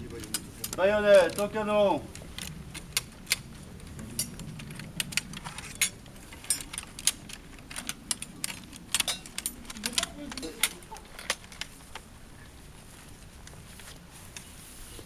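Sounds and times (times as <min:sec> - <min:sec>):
metallic clicks of bayonets: 0:00.0 - 0:14.6.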